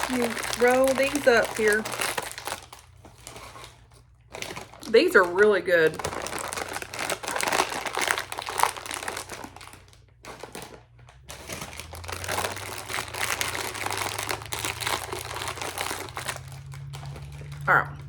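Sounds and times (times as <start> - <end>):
plastic snack bag crinkling: 0.0 - 18.0.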